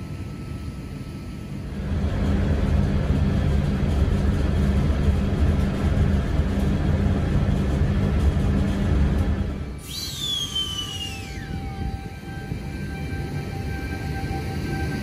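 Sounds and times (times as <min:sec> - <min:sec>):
train rumbling: 0:01.6 - 0:15.0.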